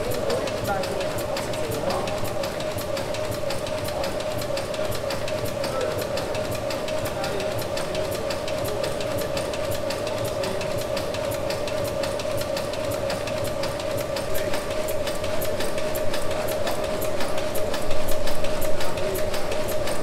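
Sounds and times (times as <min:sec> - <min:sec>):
steady generator hum: 0:00.0 - 0:20.0
steam engine clicking and ticking: 0:00.0 - 0:20.0.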